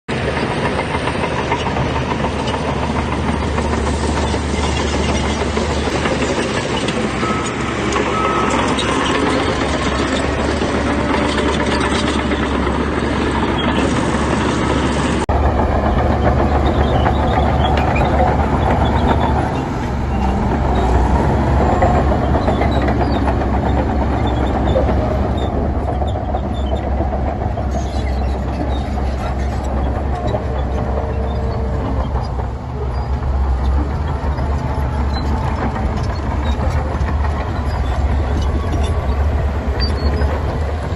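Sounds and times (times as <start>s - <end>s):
diesel earthmoving machinery running: 0.1s - 40.9s.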